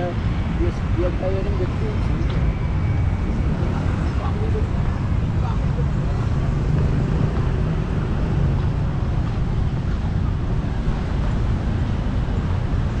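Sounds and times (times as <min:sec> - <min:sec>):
traffic rumble: 0:00.0 - 0:13.0
wind buffeting microphone: 0:00.0 - 0:13.0.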